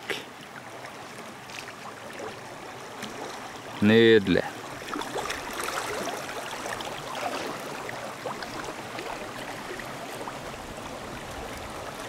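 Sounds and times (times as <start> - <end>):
small water splashes: 0.0 - 3.8, 4.4 - 12.0
river water gurgling: 0.0 - 12.0.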